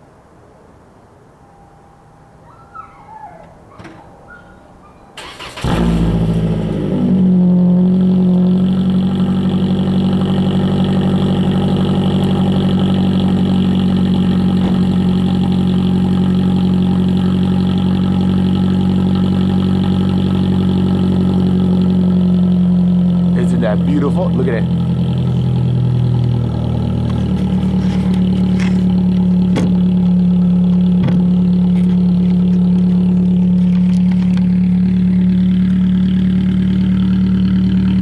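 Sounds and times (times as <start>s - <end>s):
car engine cranking: 5.1s - 38.0s
car engine idling loudly: 5.2s - 38.0s.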